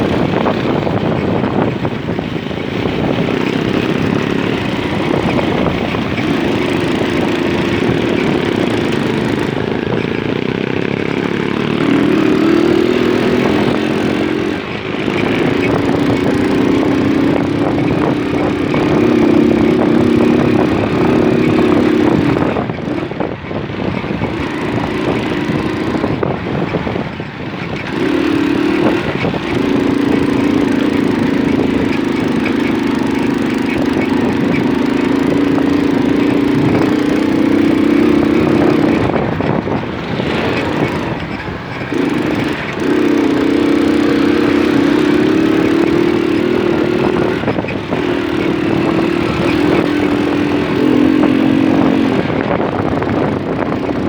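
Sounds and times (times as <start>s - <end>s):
moped engine running: 0.0s - 54.0s
wind and road noise: 0.0s - 54.0s.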